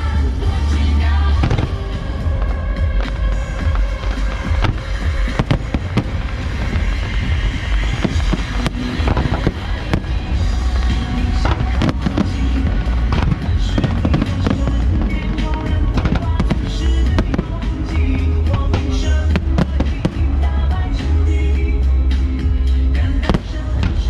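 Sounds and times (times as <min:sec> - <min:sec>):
fireworks bursting with sharp bangs: 0:00.0 - 0:24.0
music playing: 0:00.0 - 0:24.0.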